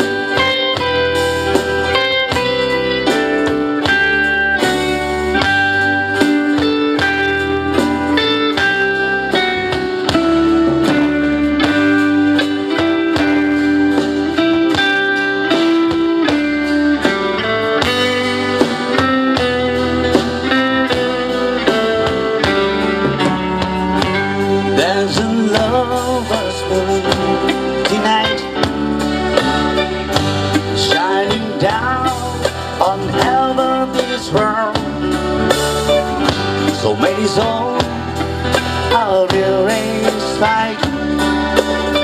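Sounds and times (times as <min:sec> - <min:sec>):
guitar-led band music: 0:00.0 - 0:42.0
steady bass: 0:00.0 - 0:42.0.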